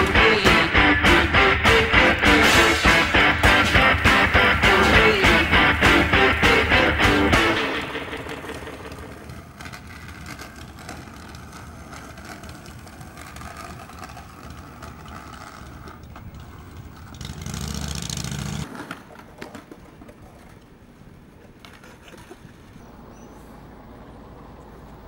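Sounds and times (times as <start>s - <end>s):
skateboard wheels rolling on pavement: 0.0s - 25.0s
street traffic noise: 0.0s - 25.0s.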